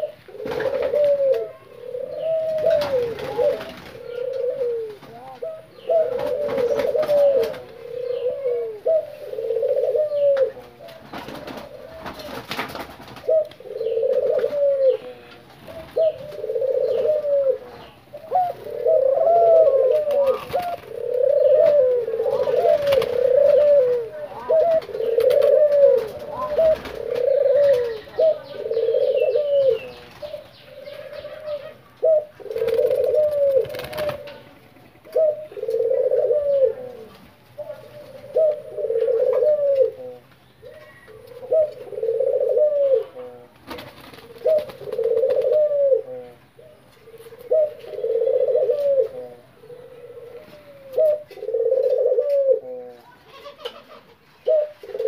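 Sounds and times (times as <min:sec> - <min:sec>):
doves cooing: 0:00.0 - 0:55.0.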